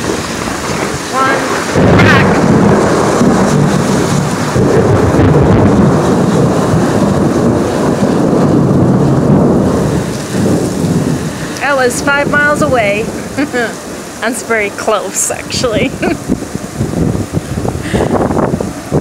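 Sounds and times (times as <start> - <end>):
heavy rain: 0.0 - 19.0
rolling thunder rumble: 0.0 - 19.0.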